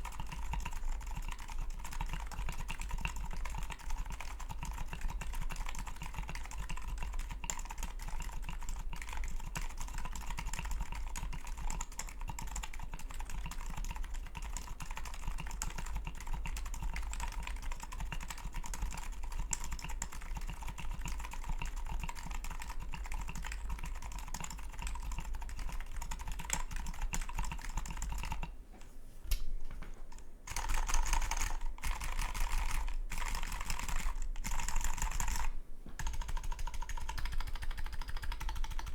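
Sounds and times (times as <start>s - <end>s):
mechanical keyboard typing: 0.0s - 28.5s, 30.1s - 38.9s.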